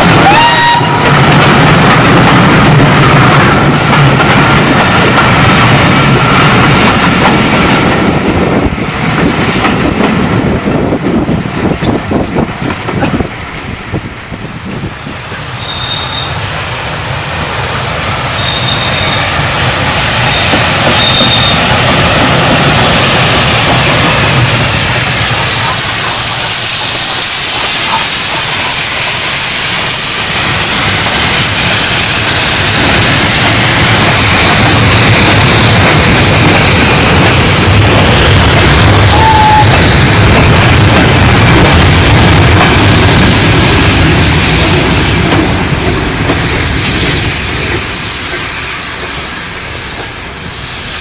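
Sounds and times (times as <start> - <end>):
steam train rumbling and hissing: 0.0 - 51.0.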